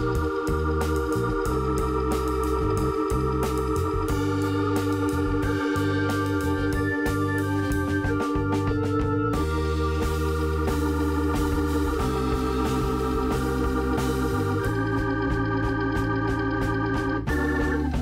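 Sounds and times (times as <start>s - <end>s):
keyboard chords over a beat: 0.0s - 18.0s.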